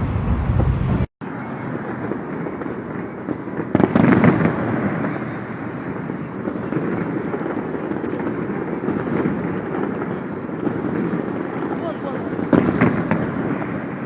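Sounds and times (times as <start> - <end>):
distant fireworks bangs: 0.0 - 14.0.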